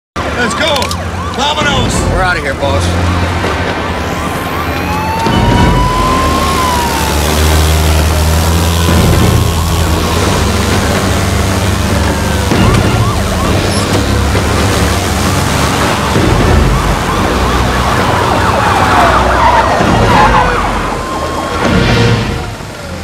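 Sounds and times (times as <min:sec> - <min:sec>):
car engines rumbling: 0:00.2 - 0:23.0
police sirens wailing: 0:00.2 - 0:23.0.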